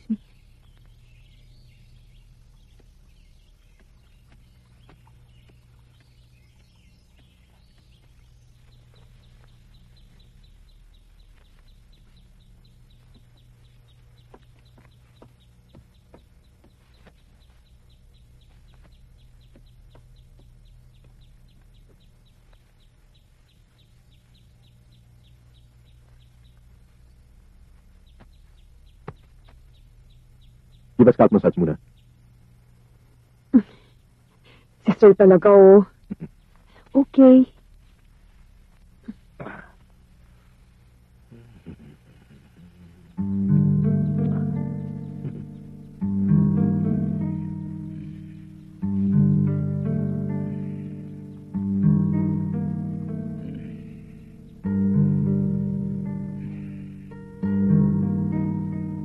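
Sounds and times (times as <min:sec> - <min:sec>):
bird chirps: 0:00.0 - 0:37.6, 0:41.3 - 0:59.0
rural ambience: 0:00.0 - 0:59.0
steady low hum: 0:00.0 - 0:59.0.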